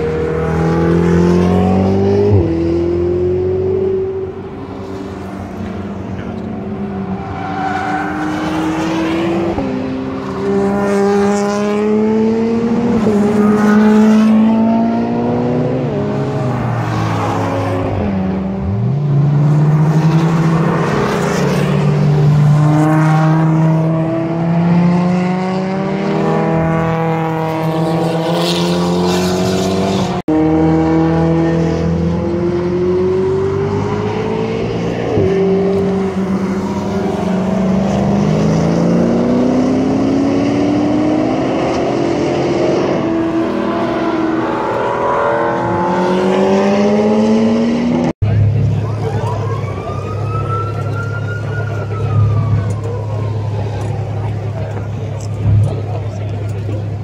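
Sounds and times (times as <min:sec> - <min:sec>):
sports car engines accelerating past: 0:00.0 - 0:50.9.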